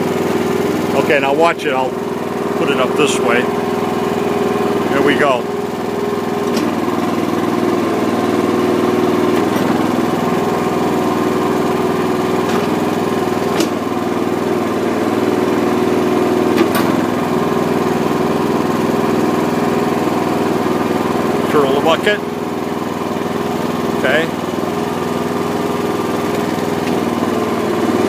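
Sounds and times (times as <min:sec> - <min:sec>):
small gasoline engine running: 0:00.0 - 0:28.0.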